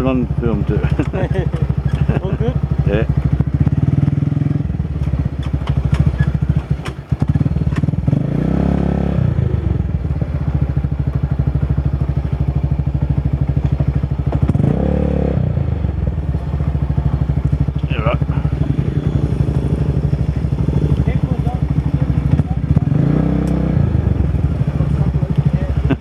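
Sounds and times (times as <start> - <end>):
louder motorbike engine passing: 0.0 - 26.0
motorbike engine idling: 0.0 - 26.0.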